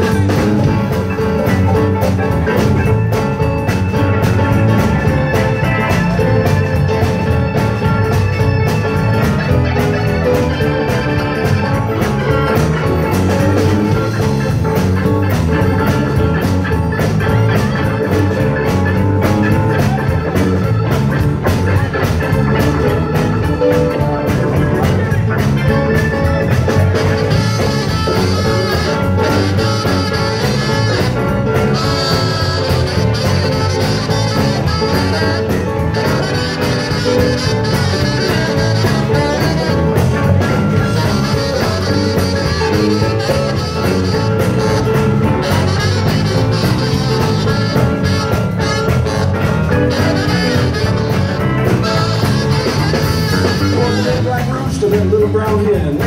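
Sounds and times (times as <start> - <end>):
saxophone: 0.0 - 54.7
bass guitar: 0.0 - 56.0
drum kit: 0.0 - 56.0
electric guitar: 0.0 - 56.0
keyboards: 0.0 - 56.0.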